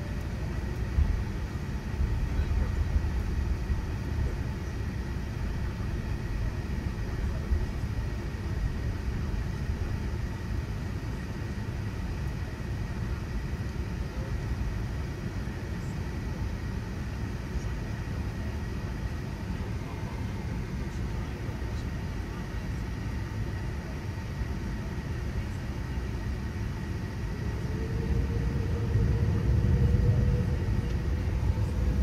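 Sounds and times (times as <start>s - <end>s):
jet engines rumbling inside cabin: 0.0s - 32.0s.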